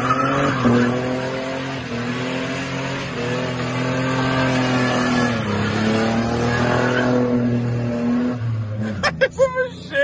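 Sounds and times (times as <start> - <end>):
tyres squealing on road: 0.0 - 9.2
car engine at high revs: 0.0 - 10.0.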